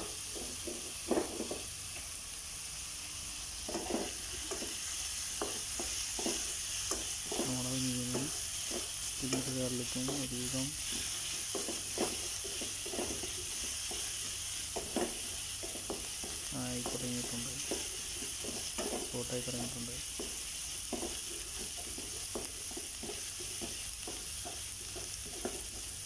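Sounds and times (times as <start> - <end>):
food sizzling in hot oil: 0.0 - 26.0
spatula scraping pan: 3.6 - 26.0.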